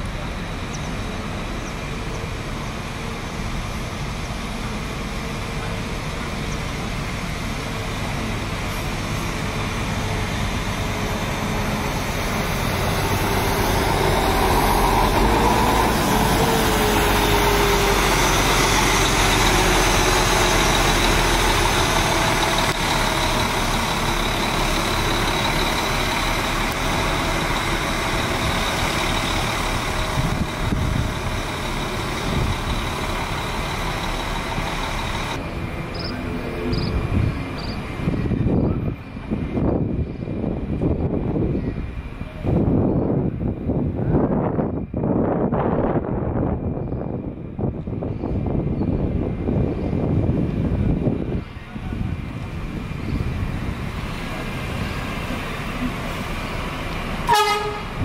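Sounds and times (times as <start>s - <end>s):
coach diesel engine running: 0.0s - 58.0s.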